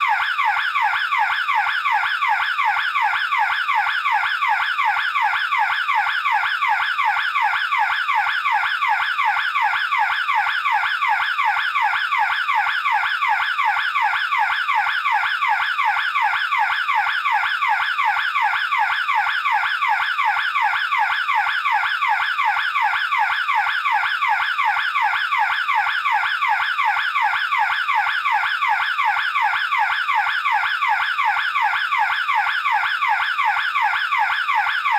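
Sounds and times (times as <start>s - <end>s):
burglar alarm siren wailing: 0.0s - 34.9s.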